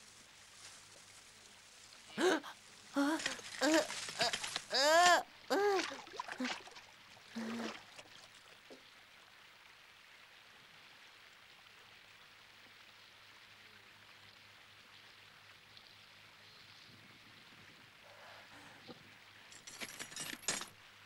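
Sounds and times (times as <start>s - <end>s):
running water hiss: 0.0s - 21.0s.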